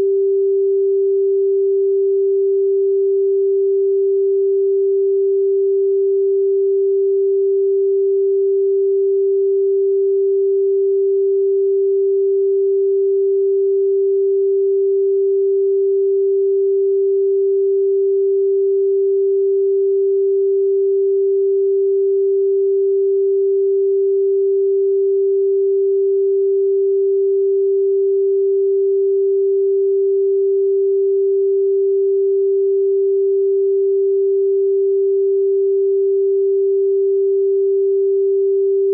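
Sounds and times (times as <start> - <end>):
steady sine tone: 0.0 - 38.9.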